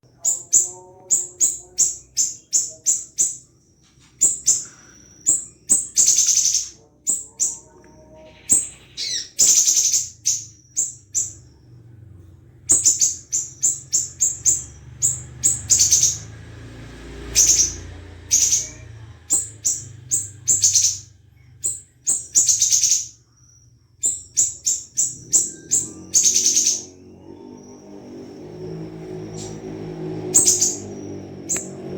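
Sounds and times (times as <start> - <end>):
songbird chirping and trilling: 0.0 - 31.9.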